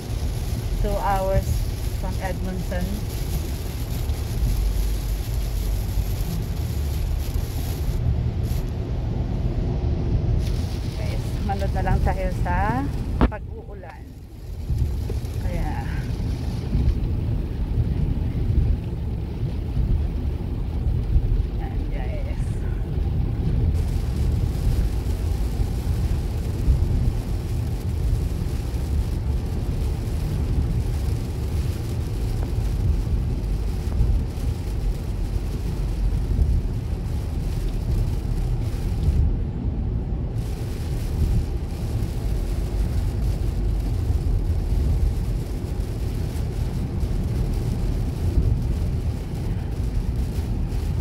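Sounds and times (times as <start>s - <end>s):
rain and wet tyres hissing: 0.0s - 51.0s
road and engine rumble: 0.0s - 51.0s.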